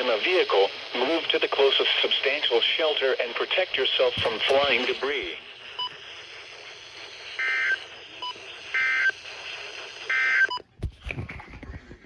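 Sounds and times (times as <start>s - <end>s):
radio hiss: 0.0s - 11.7s.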